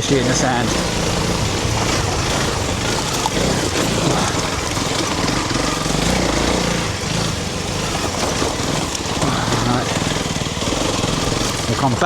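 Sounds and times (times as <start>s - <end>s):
continuous noisy rush: 0.0s - 12.0s
motorcycle engine running: 0.0s - 12.0s.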